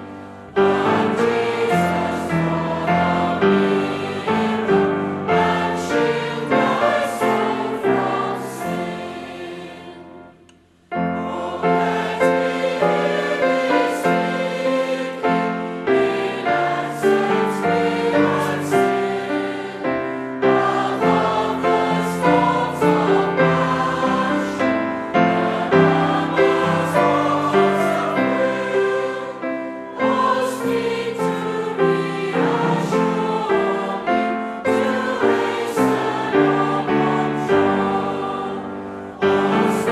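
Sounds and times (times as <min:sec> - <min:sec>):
choir singing church music: 0:00.0 - 0:39.9.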